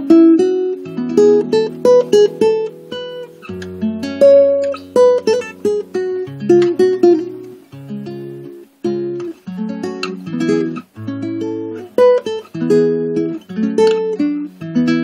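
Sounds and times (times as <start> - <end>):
solo acoustic guitar melody: 0.0 - 15.0.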